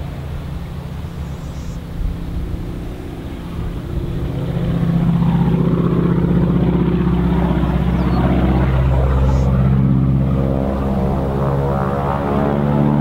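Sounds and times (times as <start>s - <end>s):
biplane engine drone in flight: 0.0s - 13.0s.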